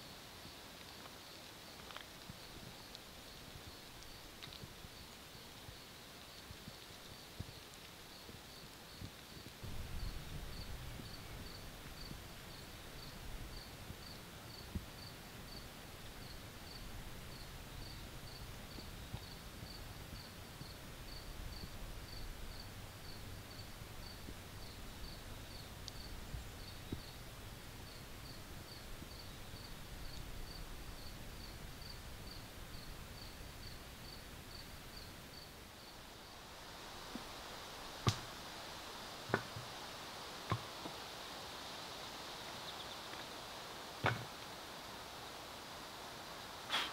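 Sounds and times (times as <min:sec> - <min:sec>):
cricket chirping: 0:00.0 - 0:46.9
faint low outdoor rumble: 0:00.0 - 0:46.9.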